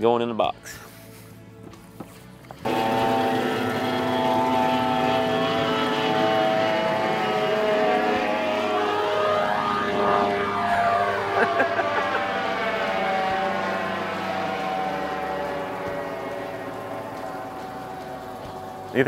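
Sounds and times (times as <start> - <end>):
outboard motor whining drone: 2.5 - 19.0.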